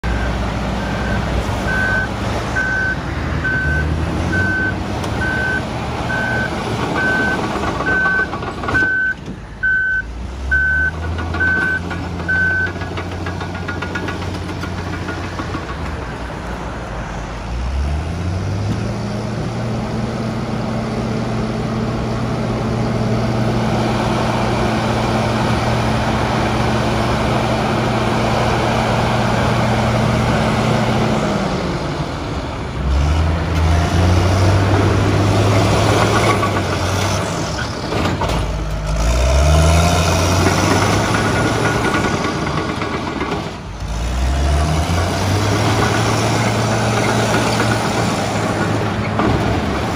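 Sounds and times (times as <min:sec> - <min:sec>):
diesel engine revving: 0:00.0 - 0:49.9.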